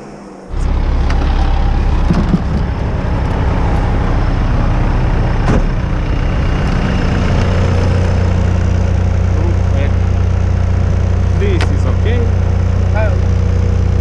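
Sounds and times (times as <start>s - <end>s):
vehicle engine idling: 0.5s - 14.0s.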